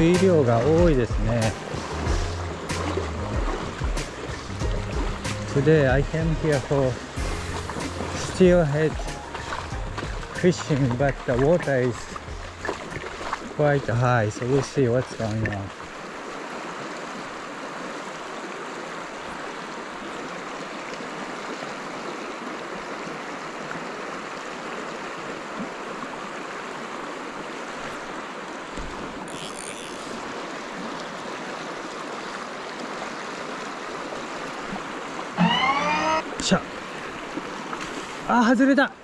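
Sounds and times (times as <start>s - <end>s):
creek water rushing over a riffle: 0.0s - 39.0s.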